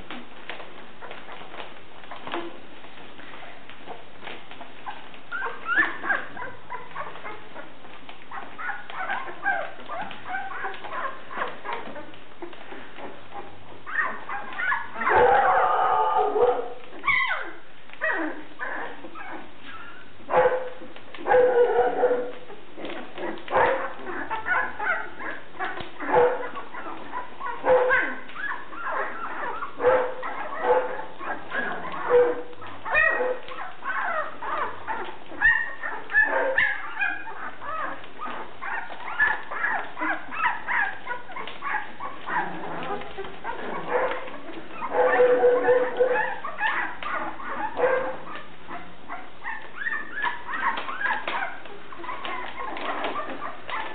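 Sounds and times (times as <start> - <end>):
puppies crying: 3.8 - 53.9.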